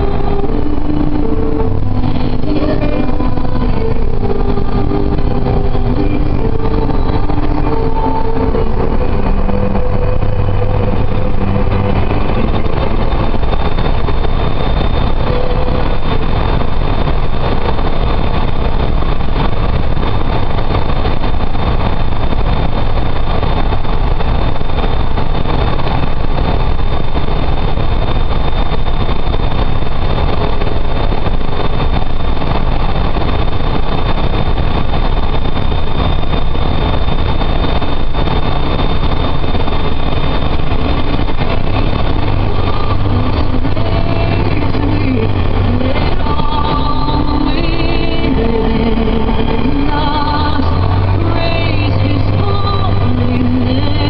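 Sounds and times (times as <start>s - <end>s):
car road and engine noise in tunnel: 0.0s - 54.0s.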